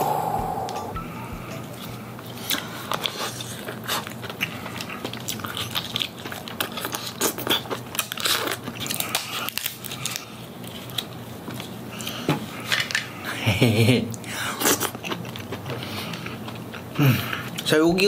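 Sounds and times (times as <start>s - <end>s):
crab meat chewing crackles: 2.2s - 13.2s, 14.1s - 17.7s.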